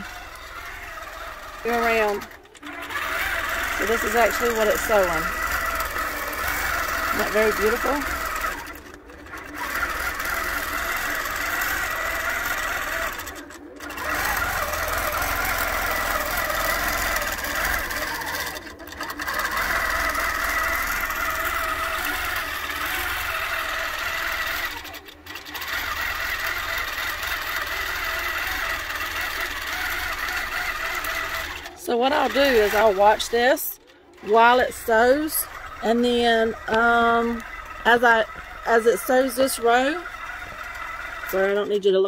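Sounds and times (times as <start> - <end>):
quilting machine stitching: 0.0 - 42.0.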